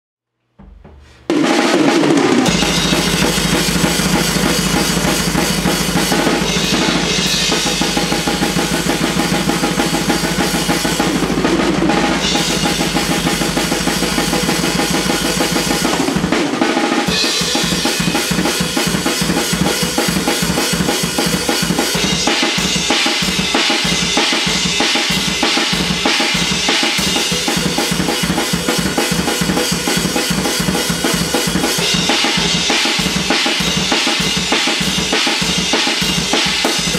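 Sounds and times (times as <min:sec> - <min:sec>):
metal drum kit playing: 0:00.6 - 0:36.9.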